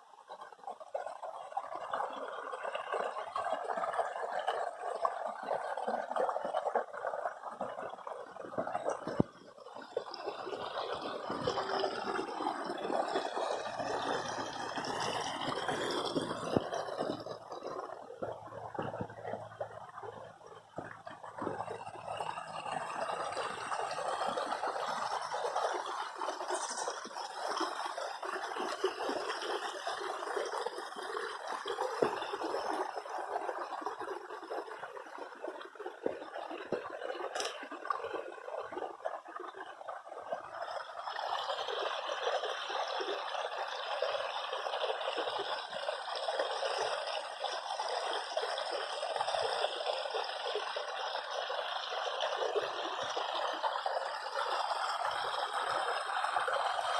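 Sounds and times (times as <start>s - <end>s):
stream flowing over stones: 0.0s - 56.9s.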